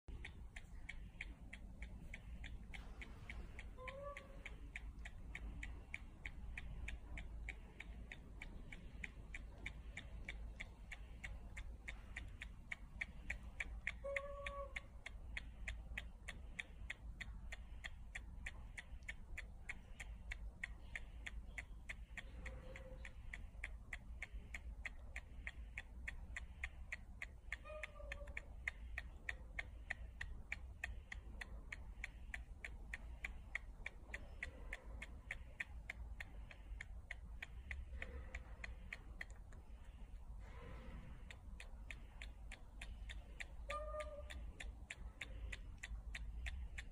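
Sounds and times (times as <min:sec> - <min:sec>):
baby monkey sucking fingers: 0:00.1 - 0:46.9.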